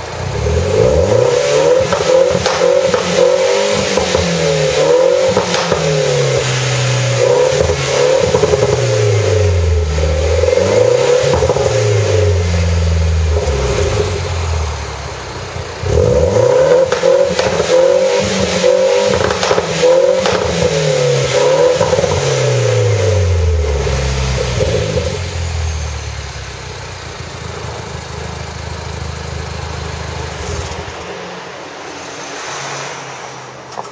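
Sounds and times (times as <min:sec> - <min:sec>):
car engine idling: 0:00.0 - 0:32.0
car engine revving: 0:00.0 - 0:33.9.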